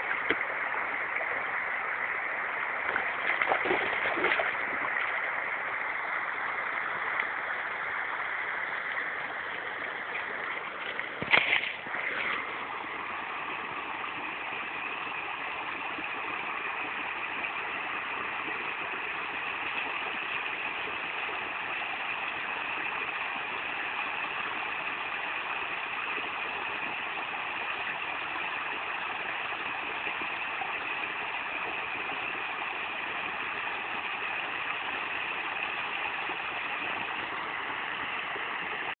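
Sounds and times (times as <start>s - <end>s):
stream rushing: 0.0s - 39.0s.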